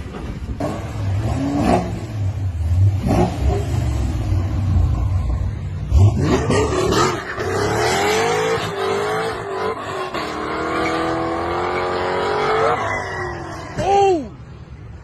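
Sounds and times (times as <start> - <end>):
vehicle engine revving: 0.6 - 12.8.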